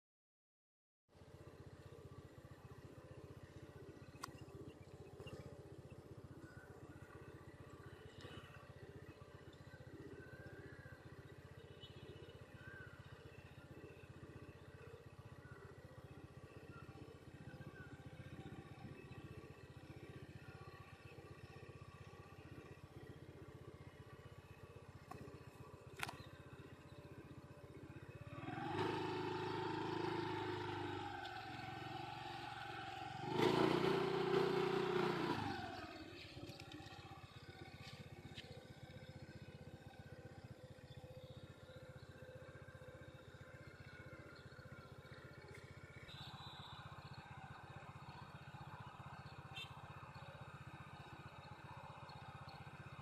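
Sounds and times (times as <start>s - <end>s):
motor vehicles passing: 1.2s - 53.0s.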